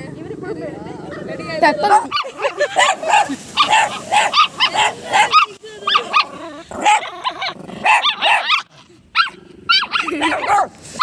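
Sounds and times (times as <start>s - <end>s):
small dogs barking: 1.7s - 11.0s.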